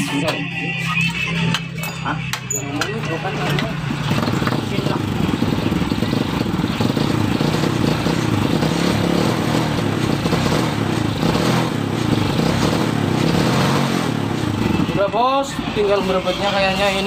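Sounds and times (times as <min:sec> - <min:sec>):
motorcycle engine running: 0:03.3 - 0:17.0.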